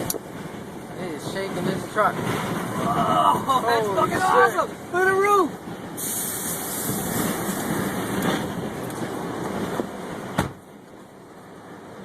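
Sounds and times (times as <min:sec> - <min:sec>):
wind rushing across microphone: 0:00.0 - 0:12.0.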